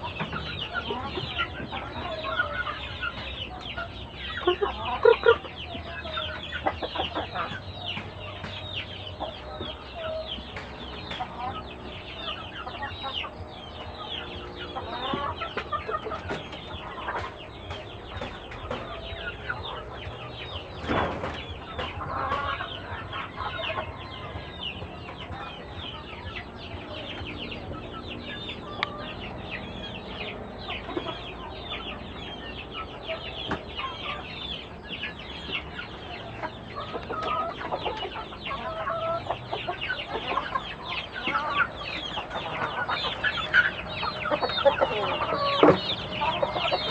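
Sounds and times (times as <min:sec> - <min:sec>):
chickens clucking and calling: 0:00.0 - 0:46.9.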